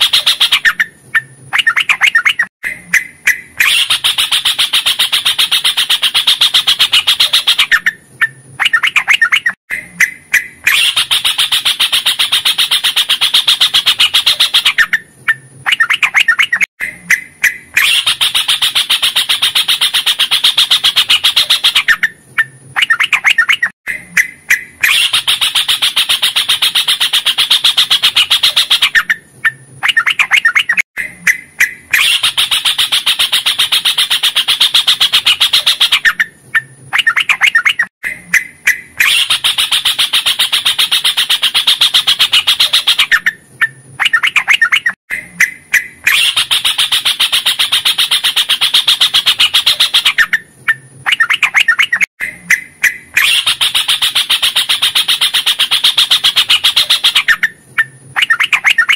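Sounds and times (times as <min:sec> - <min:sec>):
bird singing fast notes: 0:00.0 - 0:58.9.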